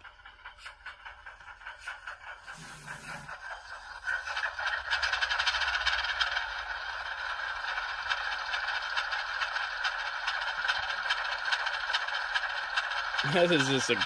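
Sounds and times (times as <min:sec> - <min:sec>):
model diesel engine rattling: 0:00.0 - 0:14.0.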